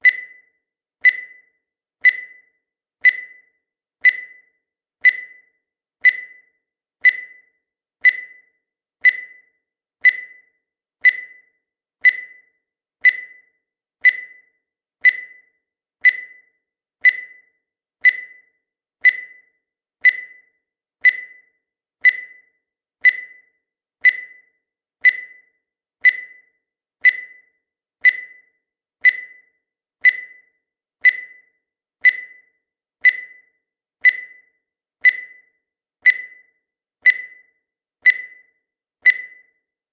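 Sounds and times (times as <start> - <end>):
short high timer beeps: 0.0 - 26.5, 27.1 - 39.6.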